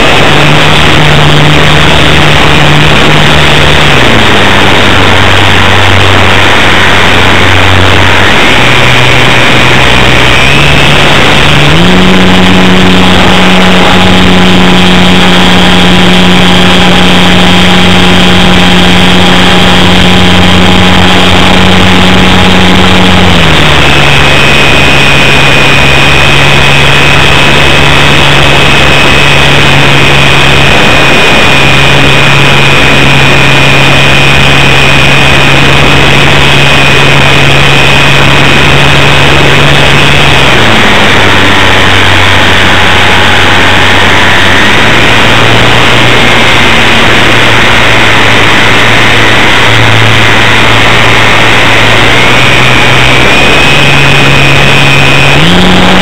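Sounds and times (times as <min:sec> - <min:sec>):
electric motor and propeller whine: 0:00.0 - 0:56.0
rushing air noise: 0:00.0 - 0:56.0.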